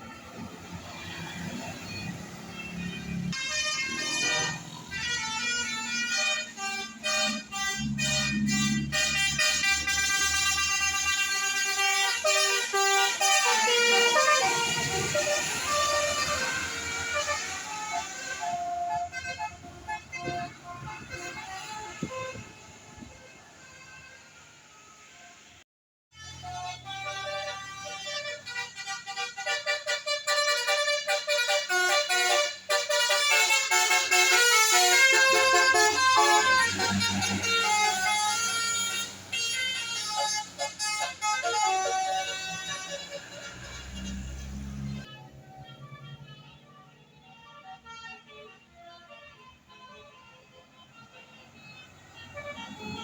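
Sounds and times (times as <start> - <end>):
bus noise: 0.0 - 25.6, 26.2 - 53.0
musical air horns playing tune: 0.2 - 46.7, 51.4 - 53.0.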